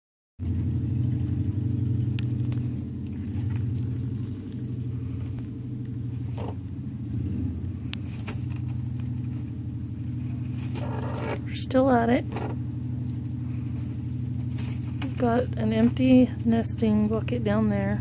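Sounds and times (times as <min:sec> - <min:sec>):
low motor hum: 0:00.4 - 0:18.0.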